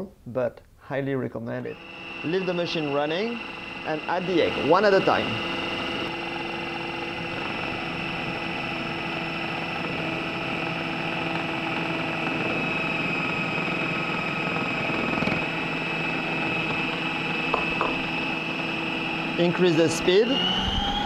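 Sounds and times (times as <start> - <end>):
dough churning: 1.7 - 19.6
food processor motor running: 1.7 - 21.0.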